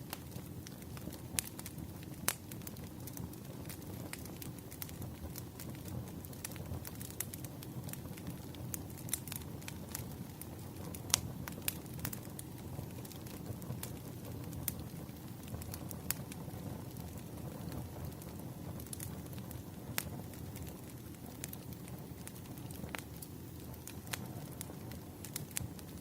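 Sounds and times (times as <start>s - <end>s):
firewood crackling and popping: 0.0s - 26.0s
rumble of flames: 0.0s - 26.0s.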